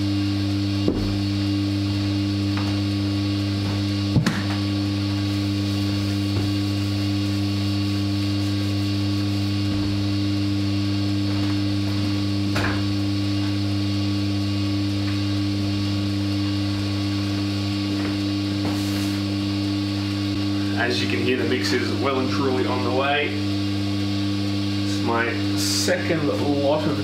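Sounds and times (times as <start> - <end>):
dough mixer humming: 0.0 - 27.0.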